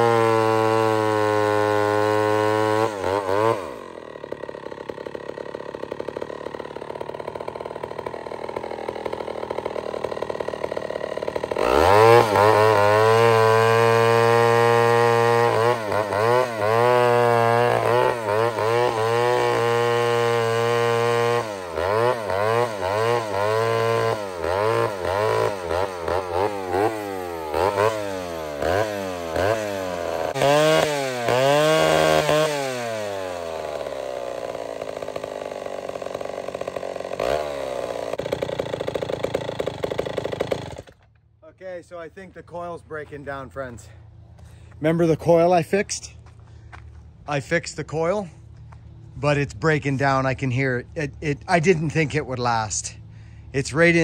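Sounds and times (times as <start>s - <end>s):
chainsaw engine revving and idling: 0.0s - 54.0s.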